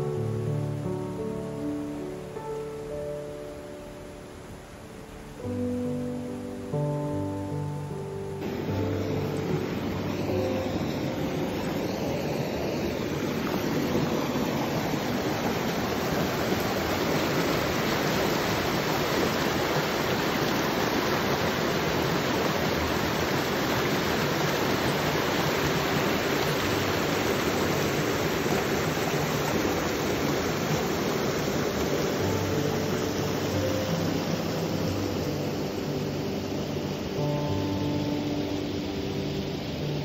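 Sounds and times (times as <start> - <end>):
stream rushing over rocks: 0.0 - 40.0.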